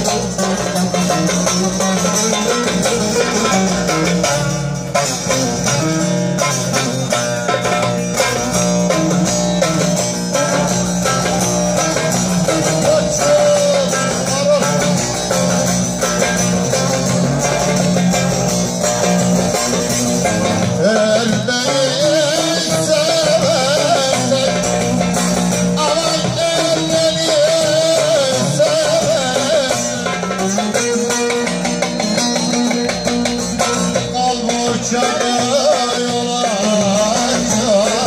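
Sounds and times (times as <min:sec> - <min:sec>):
plucked string instrument: 0:00.0 - 0:38.0.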